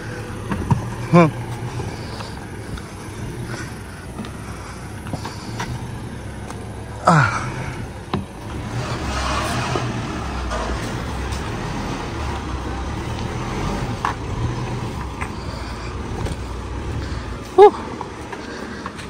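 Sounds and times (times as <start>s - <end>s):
diesel engine pulling steadily: 0.0s - 19.0s.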